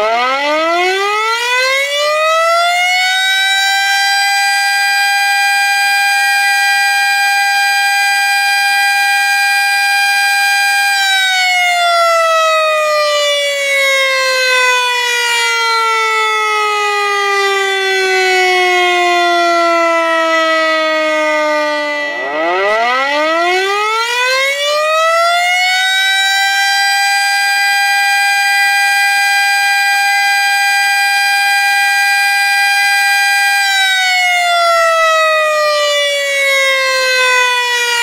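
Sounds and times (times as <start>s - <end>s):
warning siren winding: 0.0s - 38.0s.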